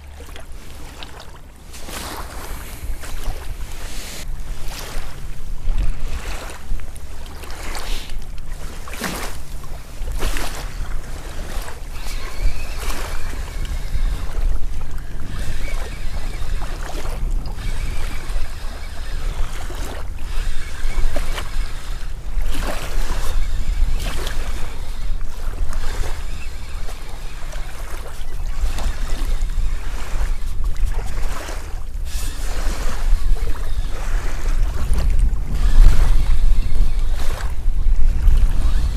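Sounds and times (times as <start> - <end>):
river waves lapping: 0.0 - 38.9
wind buffeting microphone: 0.0 - 38.9.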